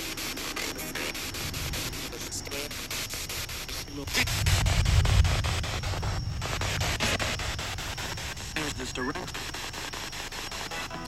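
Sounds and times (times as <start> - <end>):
choppy radio static: 0.0 - 11.0
fragments of broadcast voices: 0.0 - 11.0
low rumble: 1.2 - 10.3.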